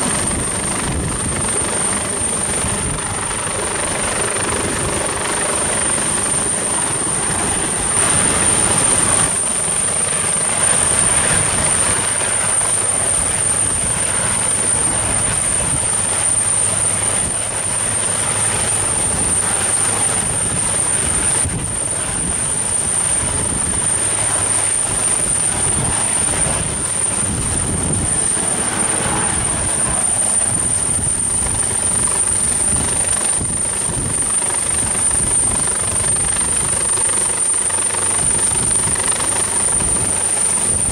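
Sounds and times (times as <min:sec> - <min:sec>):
helicopter rotor and engine noise: 0:00.0 - 0:40.9
high turbine whine: 0:00.0 - 0:40.9.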